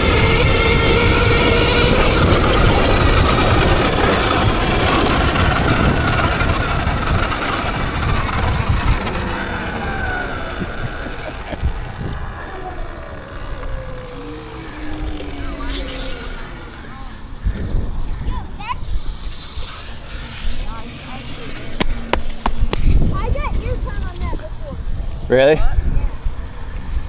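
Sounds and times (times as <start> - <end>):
electric motor whine: 0.0 - 27.0
wind rushing over microphone: 0.0 - 27.0.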